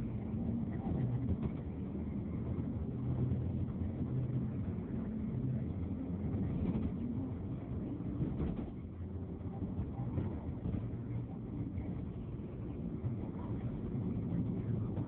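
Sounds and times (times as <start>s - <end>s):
vehicle engine with road rumble: 0.0s - 15.0s.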